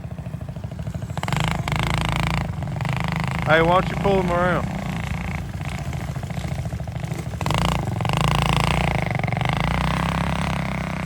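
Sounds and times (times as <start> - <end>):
small atv engine revving: 0.0 - 11.0.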